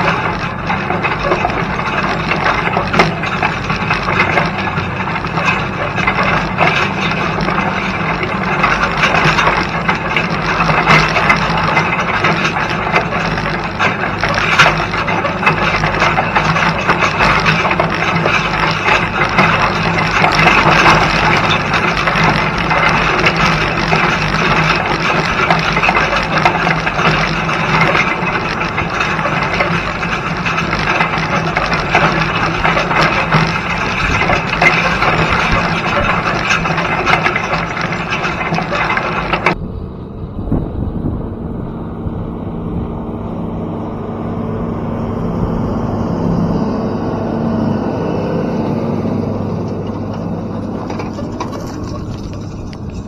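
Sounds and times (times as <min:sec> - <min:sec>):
cultivator rattling and scraping: 0:00.0 - 0:39.6, 0:43.2 - 0:53.0
tractor engine droning: 0:00.0 - 0:53.0.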